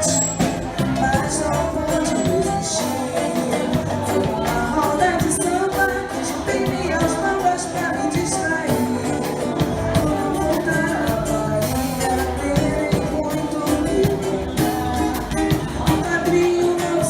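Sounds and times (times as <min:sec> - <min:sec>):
live band music: 0:00.0 - 0:17.0
steady percussion beat: 0:00.0 - 0:17.0.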